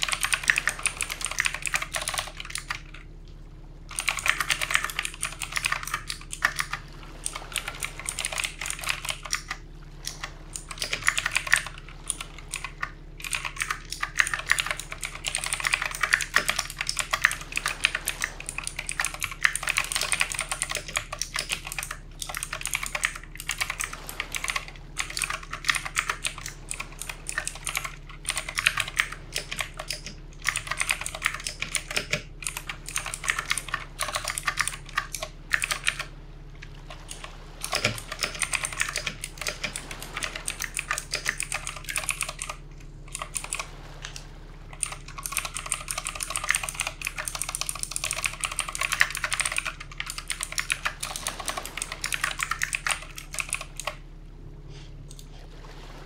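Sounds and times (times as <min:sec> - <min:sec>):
mechanical keyboard typing: 0:00.0 - 0:03.1, 0:03.9 - 0:36.1, 0:36.9 - 0:54.0.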